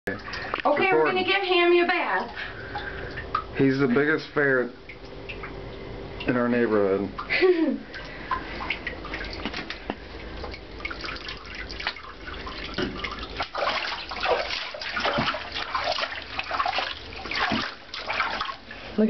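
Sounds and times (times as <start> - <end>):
bathwater sloshing and splashing: 0.1 - 19.0.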